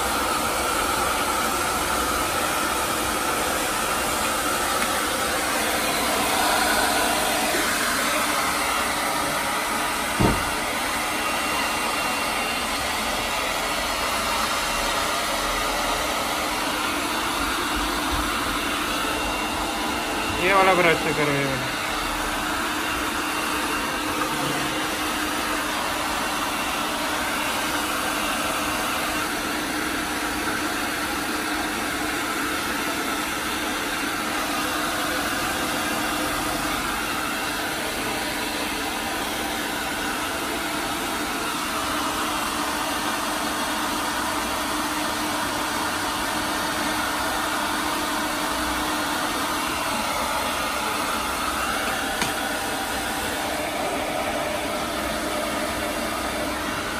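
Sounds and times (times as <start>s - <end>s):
electric grooming clipper motor: 0.0s - 56.9s.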